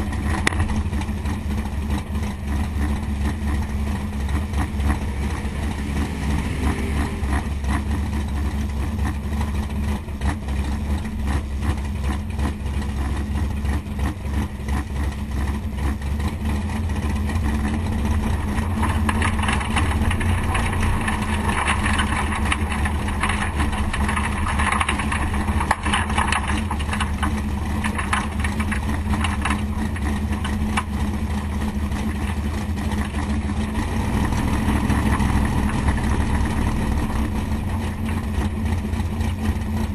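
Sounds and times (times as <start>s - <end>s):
vee eight engine idling: 0.0s - 39.9s.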